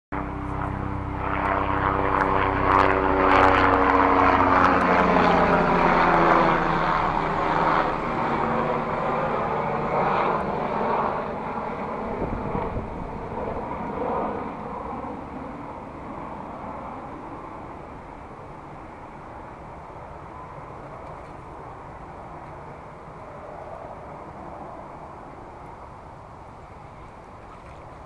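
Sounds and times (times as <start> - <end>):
low-flying aircraft passing: 0.1 - 28.0.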